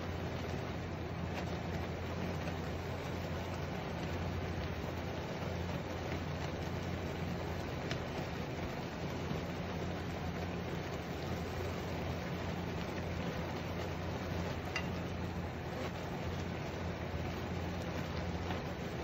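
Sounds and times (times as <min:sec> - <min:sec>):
noodles bubbling in frying pan: 0:00.0 - 0:19.0
steady low hum: 0:00.0 - 0:19.0.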